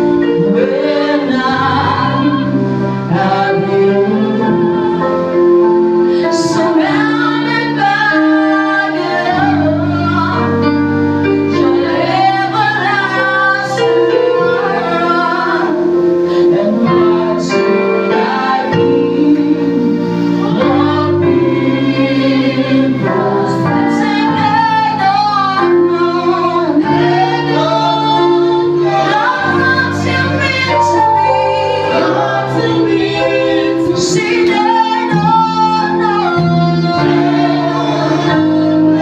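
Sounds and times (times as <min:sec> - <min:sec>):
bass: 0:00.0 - 0:39.0
keyboard chords: 0:00.0 - 0:39.0
women singing together: 0:00.0 - 0:39.0.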